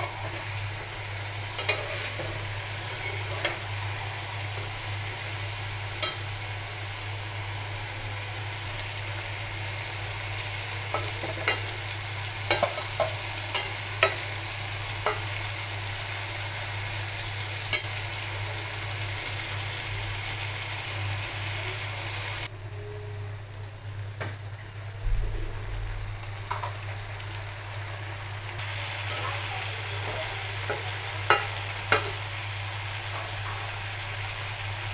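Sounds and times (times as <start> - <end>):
potatoes sizzling in hot oil: 0.0 - 22.5, 26.2 - 34.9.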